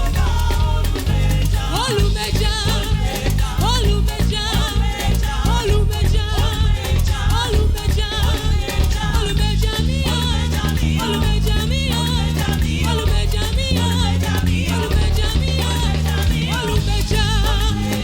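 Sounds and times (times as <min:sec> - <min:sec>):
gospel singing over band: 0:00.0 - 0:18.0.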